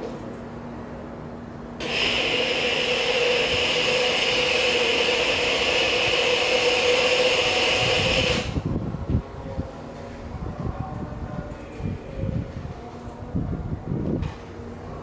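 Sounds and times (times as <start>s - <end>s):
machine whirring with whine: 0.0s - 15.0s.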